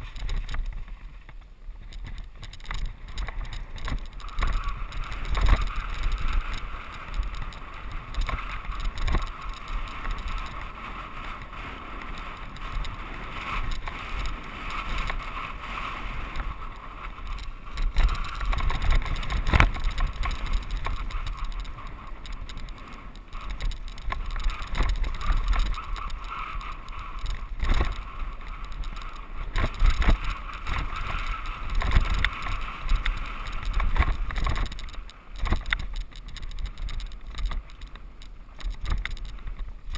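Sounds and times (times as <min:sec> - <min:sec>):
bike rattling and knocking: 0:00.0 - 0:39.9
bike tyre rumble on dirt: 0:00.0 - 0:39.9.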